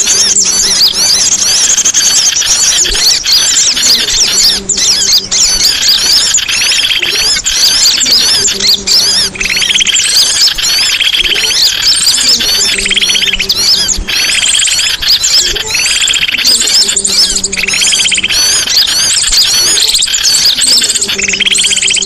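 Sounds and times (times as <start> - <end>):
fast bird trill: 0.0 - 22.0
songbirds chirping and singing: 0.0 - 22.0.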